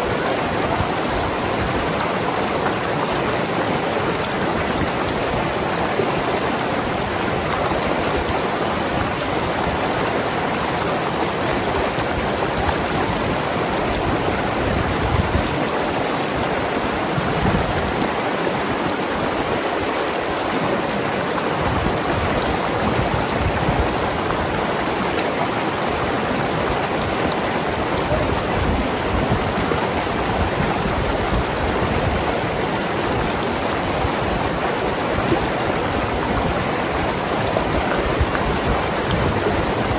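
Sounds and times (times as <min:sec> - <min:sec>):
river gurgling over rocks: 0:00.0 - 0:39.9.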